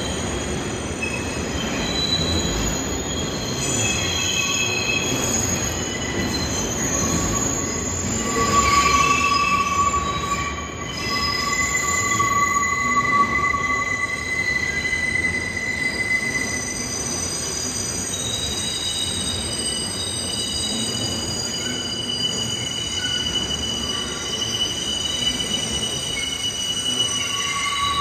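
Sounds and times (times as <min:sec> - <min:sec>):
train running gear rumble: 0:00.0 - 0:28.0
train wheels squealing on rails: 0:00.0 - 0:28.0.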